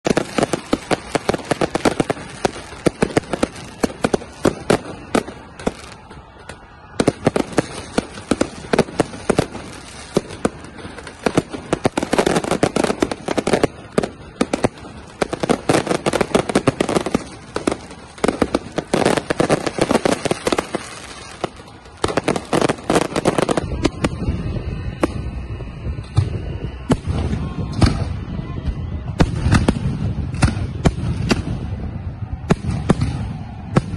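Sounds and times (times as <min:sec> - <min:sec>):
fireworks cracks and bangs: 0:00.0 - 0:33.9.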